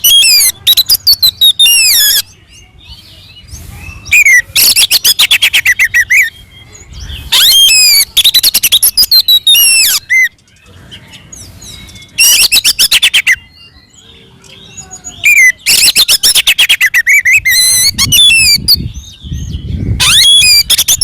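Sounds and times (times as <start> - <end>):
bird singing harsh chattering song: 0.0 - 21.0.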